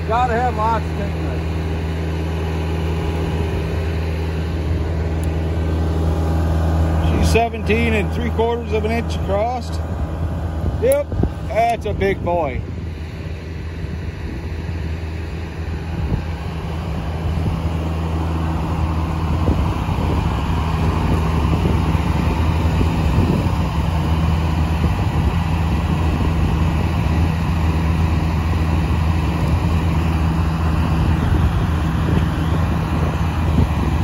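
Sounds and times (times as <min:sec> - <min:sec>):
sawmill engine running steadily: 0:00.0 - 0:34.0.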